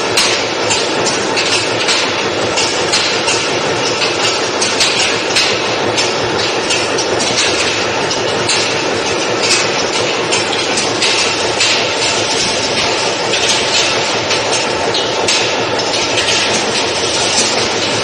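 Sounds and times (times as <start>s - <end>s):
rolling mill grinding clatter: 0.0s - 18.0s.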